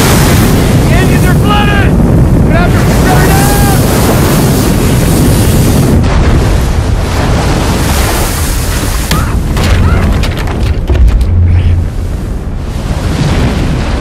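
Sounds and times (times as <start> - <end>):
deep rumble: 0.0 - 14.0
rush of water: 0.0 - 14.0.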